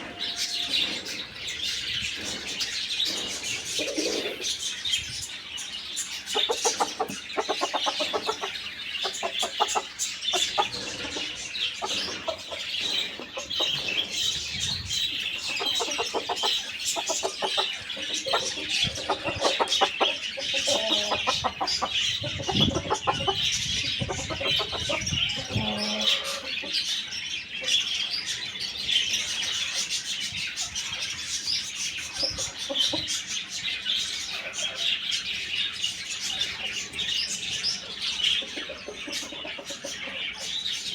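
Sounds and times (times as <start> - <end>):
chickens clucking: 0.0 - 40.9
small birds chirping: 0.0 - 40.9.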